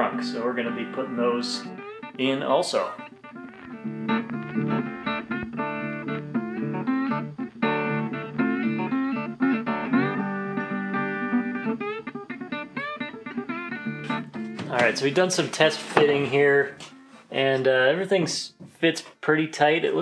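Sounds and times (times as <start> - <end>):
guitar plucked and strummed: 0.0 - 18.8.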